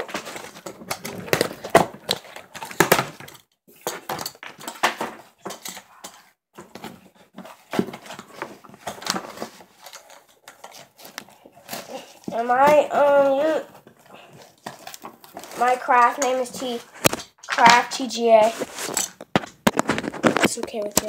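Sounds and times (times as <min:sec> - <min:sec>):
objects knocking and tapping: 0:00.0 - 0:21.0.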